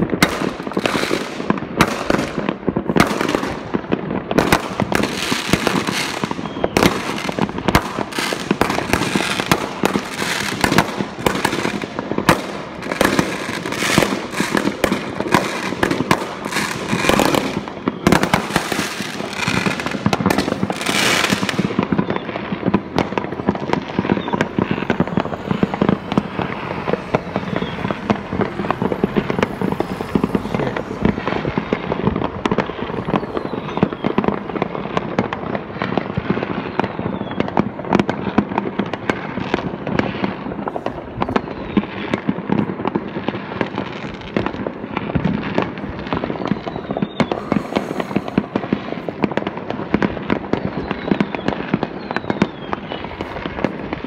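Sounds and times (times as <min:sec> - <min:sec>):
distant fireworks rumble: 0:00.0 - 0:54.0
fireworks bangs and cracks: 0:00.0 - 0:54.0.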